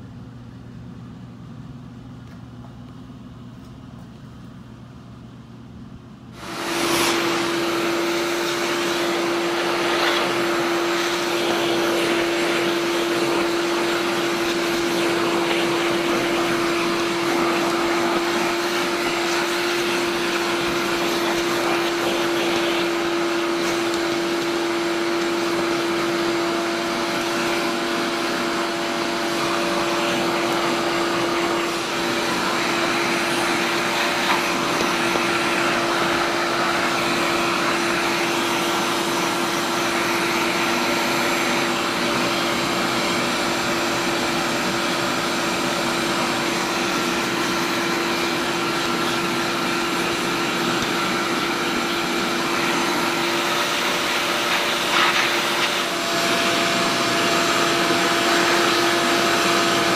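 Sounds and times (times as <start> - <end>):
shop vacuum running: 0.0 - 59.9.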